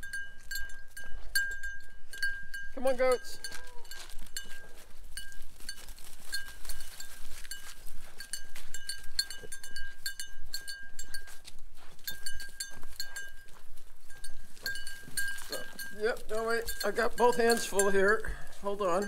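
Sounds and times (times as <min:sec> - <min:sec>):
goat bell jingling: 0:00.0 - 0:19.0.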